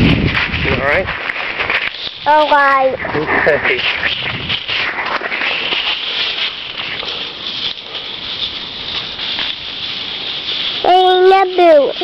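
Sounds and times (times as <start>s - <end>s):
hooves crunching dry leaves: 0.0s - 12.0s.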